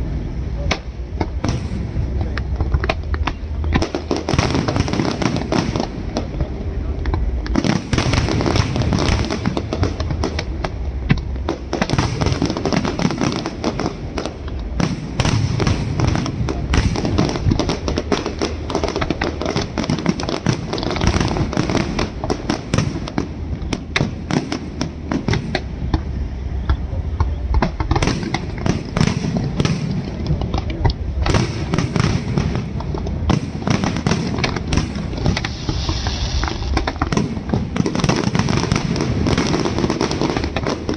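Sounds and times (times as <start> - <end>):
firecrackers banging and crackling: 0.0 - 40.9.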